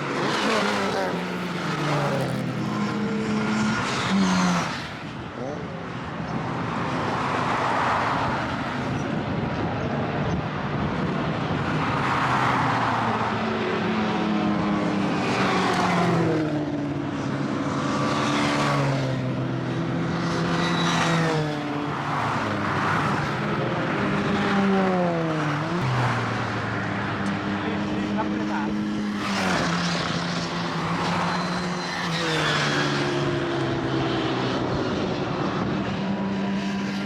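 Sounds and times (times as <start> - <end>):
race cars passing: 0.0 - 37.0.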